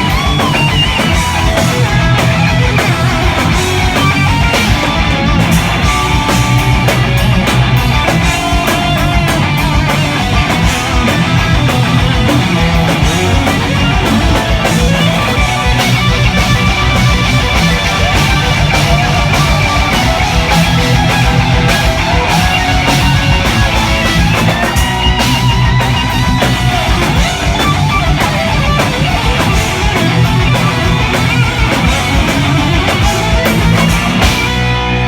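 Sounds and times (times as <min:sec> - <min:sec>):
electric guitar solo: 0:00.0 - 0:35.0
heavy metal band playing: 0:00.0 - 0:35.0.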